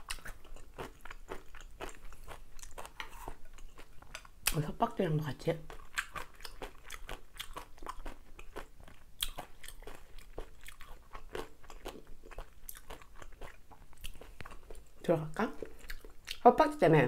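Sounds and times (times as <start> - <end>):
crunchy chewing: 0.0 - 4.6, 5.7 - 15.0, 15.6 - 16.4.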